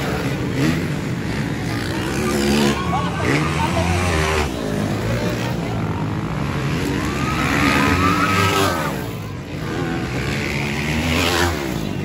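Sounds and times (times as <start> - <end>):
dirt bike engines running: 0.0 - 12.0
dirt bike revving: 0.0 - 12.0.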